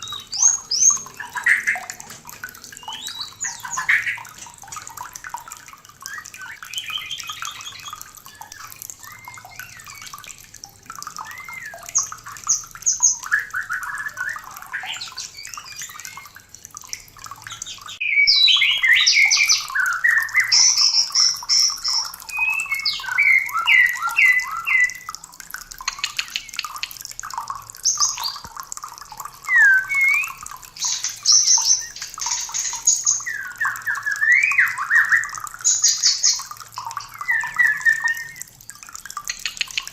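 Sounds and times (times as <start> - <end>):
birds singing whistles and trills: 0.0 - 25.2, 25.8 - 38.6, 39.3 - 39.9.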